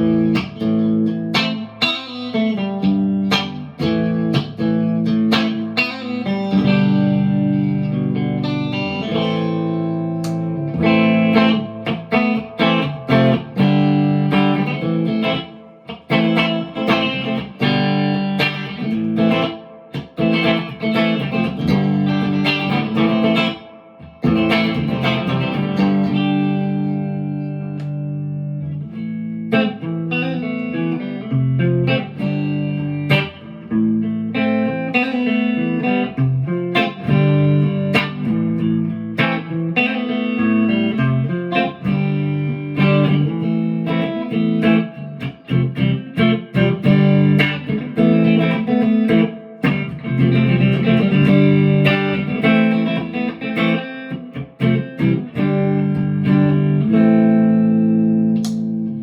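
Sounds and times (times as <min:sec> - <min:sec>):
electric guitar notes and chords: 0:00.0 - 0:59.0.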